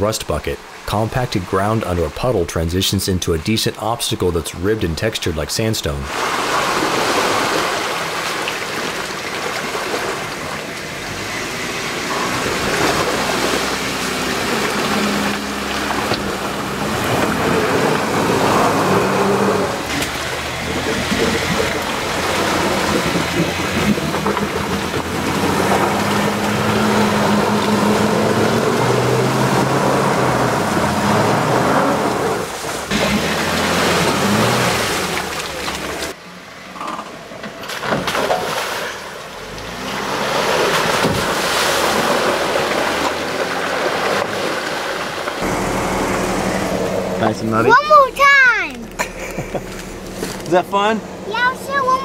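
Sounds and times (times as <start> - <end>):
tyres splashing through mud: 0.0 - 36.2, 37.4 - 52.0
car engine running: 4.3 - 37.6, 39.2 - 52.0.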